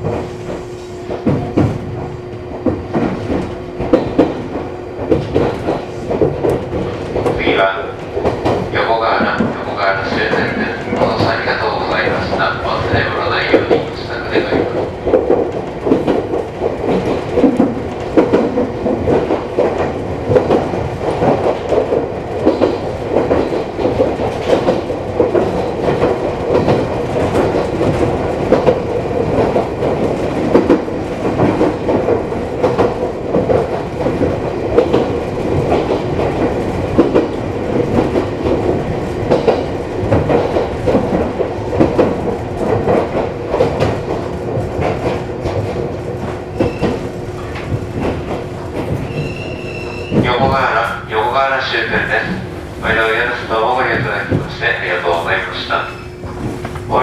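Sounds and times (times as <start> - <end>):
train hum: 0.0 - 57.0
train wheels clacking over rail joints: 0.0 - 57.0.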